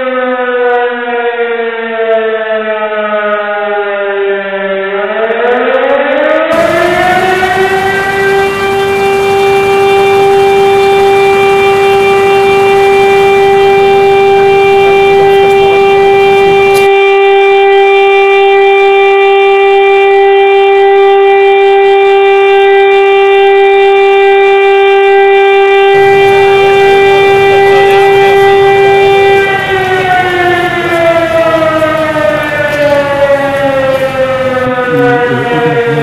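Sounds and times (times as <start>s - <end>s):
siren steady tone winding down: 0.0s - 36.0s.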